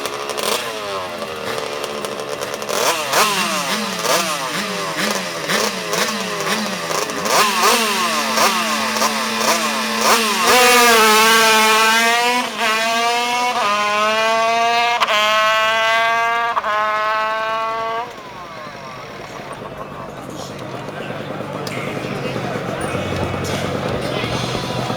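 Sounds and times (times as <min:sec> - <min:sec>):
two-stroke motorcycle engine revving: 0:00.0 - 0:24.9.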